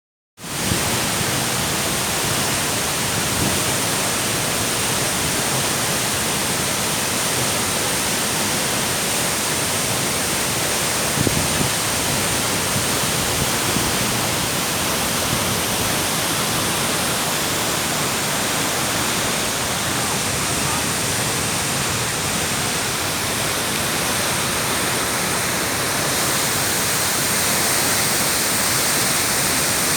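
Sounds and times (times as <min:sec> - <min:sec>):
waterfall roaring: 0:00.4 - 0:29.9.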